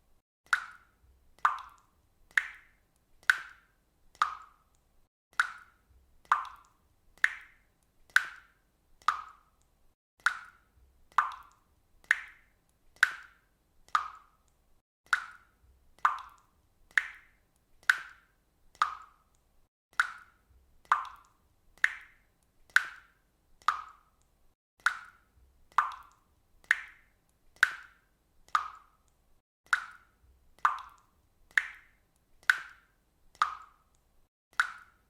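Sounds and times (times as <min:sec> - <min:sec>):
water dripping: 0:00.4 - 0:35.0.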